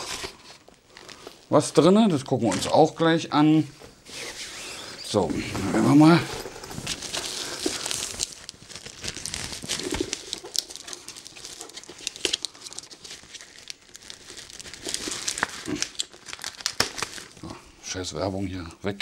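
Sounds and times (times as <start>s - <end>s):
plastic bag crinkling and rustling: 0.0s - 3.0s, 5.1s - 17.5s.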